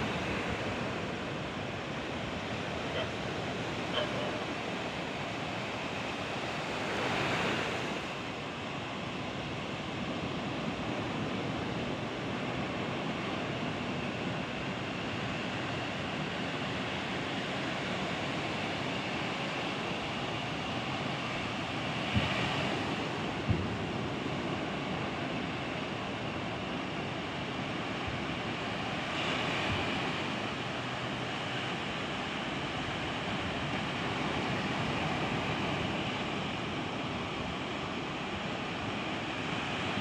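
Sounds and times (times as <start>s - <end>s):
surf breaking on a beach: 0.0s - 40.0s.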